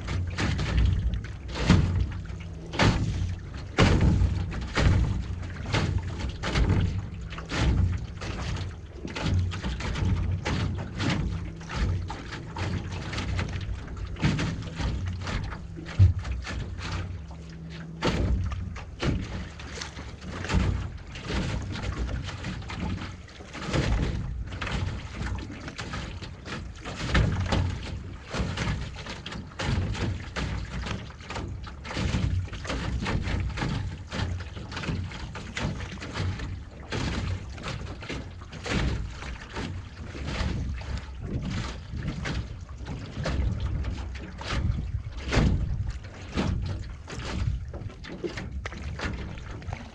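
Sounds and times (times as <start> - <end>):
paddle knocking on wooden hull: 0.0 - 49.9
water splashing with paddle strokes: 0.0 - 49.9.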